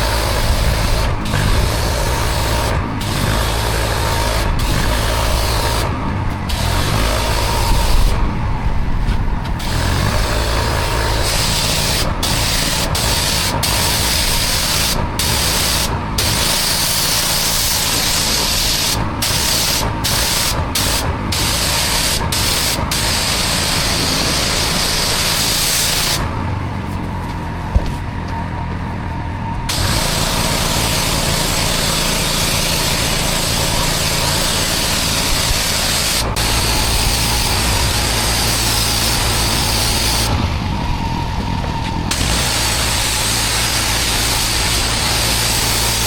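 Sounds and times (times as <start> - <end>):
pressure washer spray hissing: 0.0 - 8.2, 9.6 - 26.3, 29.7 - 40.3, 42.1 - 46.0
engine running: 0.0 - 46.0.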